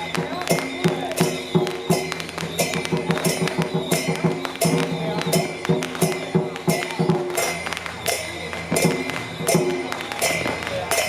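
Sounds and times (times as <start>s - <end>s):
cymbal crashes: 0.0s - 11.0s
drum strokes: 0.0s - 11.0s.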